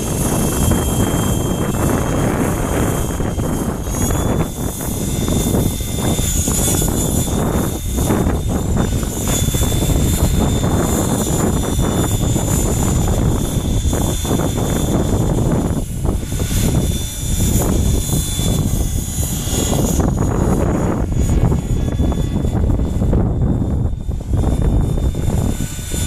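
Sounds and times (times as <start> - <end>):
helicopter rotor noise: 0.0 - 26.0
rc helicopter motor whine: 0.0 - 26.0
wind rumbling on microphone: 0.0 - 26.0.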